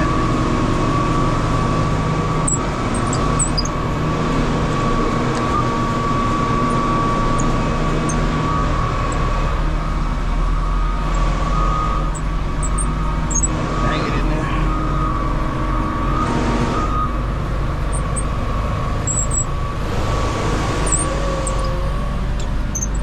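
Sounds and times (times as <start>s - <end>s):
truck diesel engine running: 0.0s - 23.0s.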